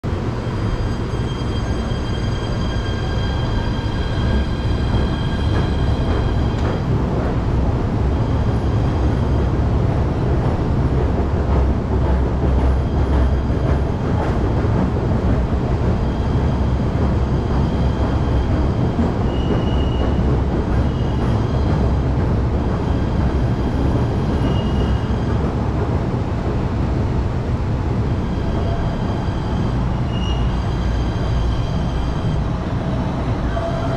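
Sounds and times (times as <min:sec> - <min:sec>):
subway train rumbling on rails: 0:00.0 - 0:33.9.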